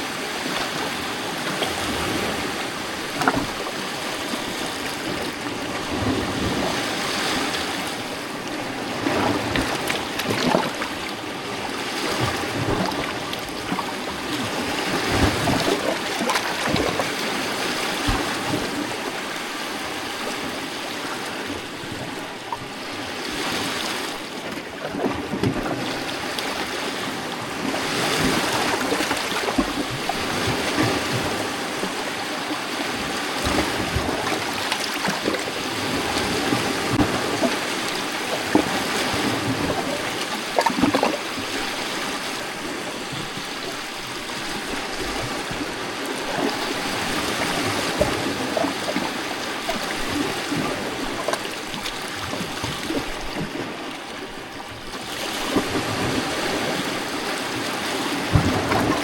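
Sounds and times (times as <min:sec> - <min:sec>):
lake waves lapping against rocks: 0:00.0 - 0:59.0.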